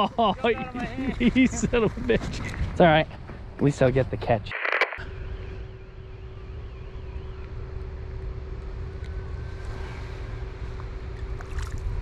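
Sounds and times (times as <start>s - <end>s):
faint constant hum: 0.0s - 12.0s
low outdoor rumble: 0.0s - 12.0s.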